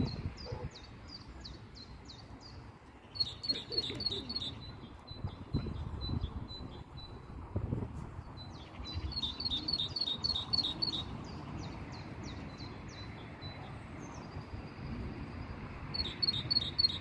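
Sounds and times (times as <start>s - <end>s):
small songbird chirping: 0.0s - 7.4s, 8.2s - 17.0s.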